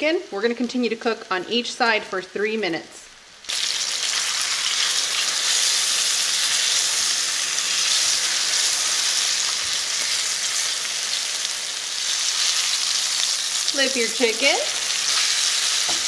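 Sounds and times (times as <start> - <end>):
chicken sizzling in a skillet: 2.5 - 16.0.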